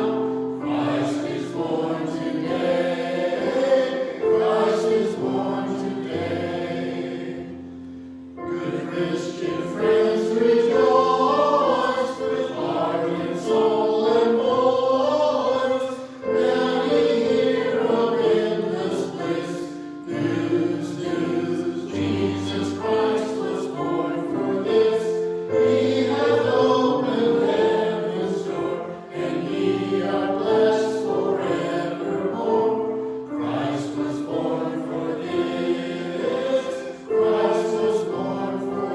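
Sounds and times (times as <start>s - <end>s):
choir singing sacred music: 0.0s - 38.9s.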